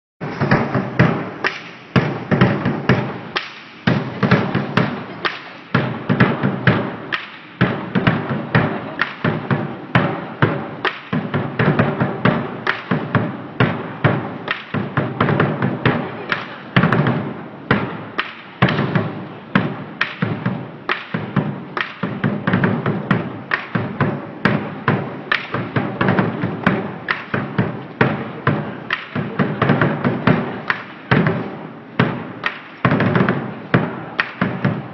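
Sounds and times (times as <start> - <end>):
large drum fast beat: 0.2 - 34.9.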